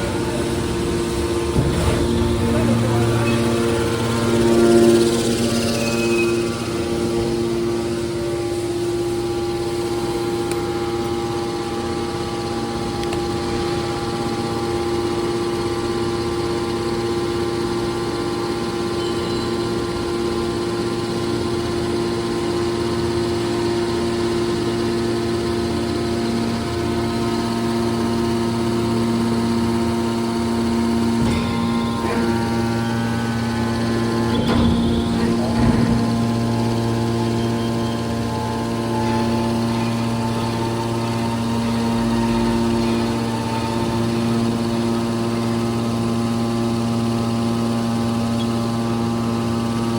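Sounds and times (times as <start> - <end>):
hydraulic motor and pump humming: 0.0 - 49.9.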